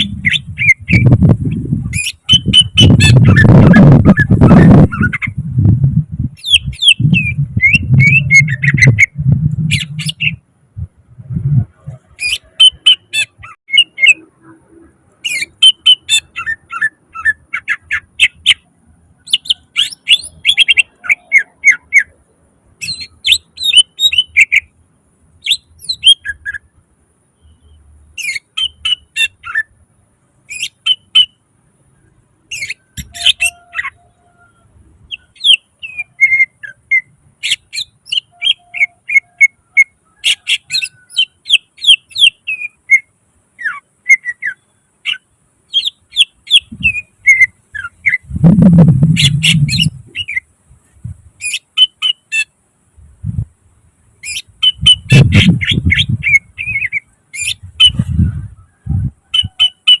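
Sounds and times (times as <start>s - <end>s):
bird chirping and whistling: 0.0s - 5.4s, 6.4s - 10.4s, 11.8s - 14.3s, 15.2s - 22.2s, 22.8s - 24.7s, 25.4s - 26.7s, 27.4s - 29.7s, 30.5s - 31.4s, 32.5s - 50.5s, 51.4s - 52.5s, 54.2s - 60.0s
harsh rasping bird calls: 0.0s - 5.4s, 6.4s - 10.5s, 11.7s - 26.8s, 27.4s - 52.7s, 54.1s - 60.0s.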